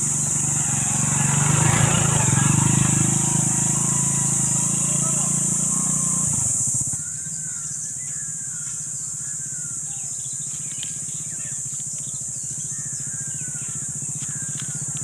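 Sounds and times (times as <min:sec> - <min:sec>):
birds chirping: 0:00.0 - 0:15.0
high-pitched insect drone: 0:00.0 - 0:15.0
motorcycle engine running: 0:00.0 - 0:15.0.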